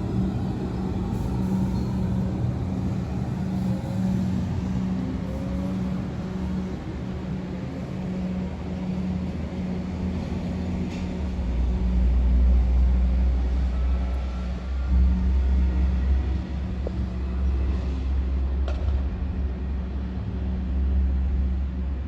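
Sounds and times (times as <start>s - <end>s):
deep train rumble: 0.0s - 22.0s
train low hum: 0.0s - 22.0s.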